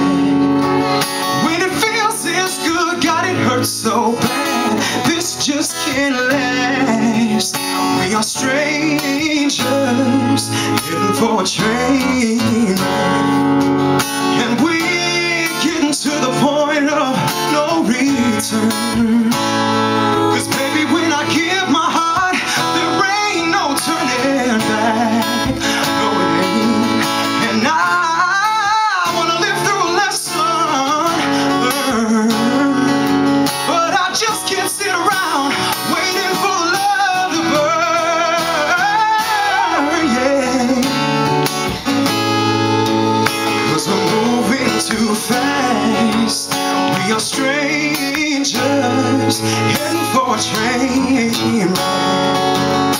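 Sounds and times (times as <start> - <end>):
acoustic guitar strumming: 0.0 - 52.9
person singing: 0.0 - 52.9.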